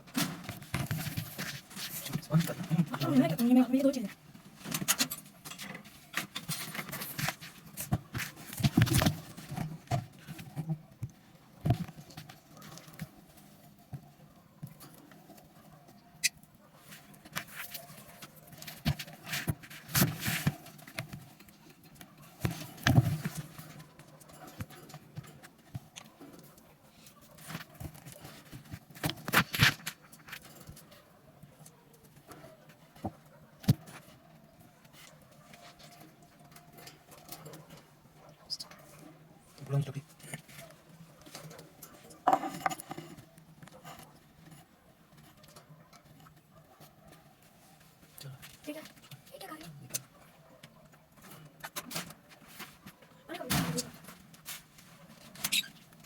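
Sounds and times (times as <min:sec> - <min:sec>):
birds rustling and scuffing: 0:00.0 - 0:56.0.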